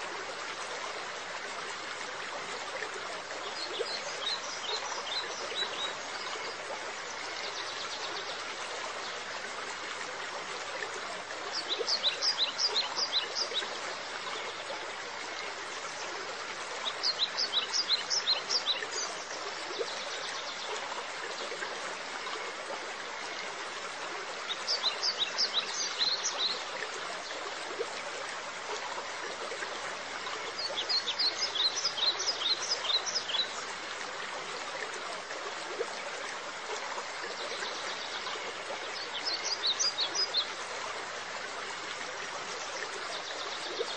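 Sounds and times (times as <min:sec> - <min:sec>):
running water trickling: 0:00.0 - 0:43.9.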